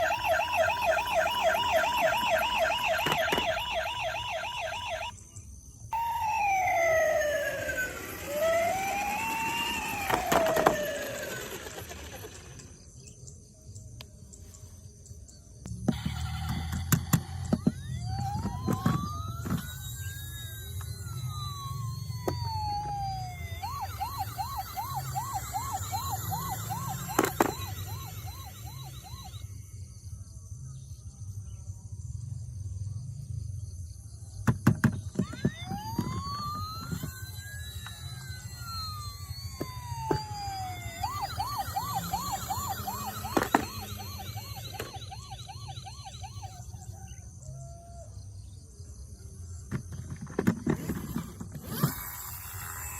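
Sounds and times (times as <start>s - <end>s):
toy electronic siren: 0.0s - 13.2s, 15.7s - 31.6s, 34.4s - 52.9s.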